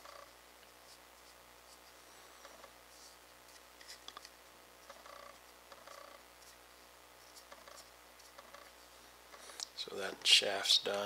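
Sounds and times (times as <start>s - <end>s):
brush scratching: 0.0s - 9.0s.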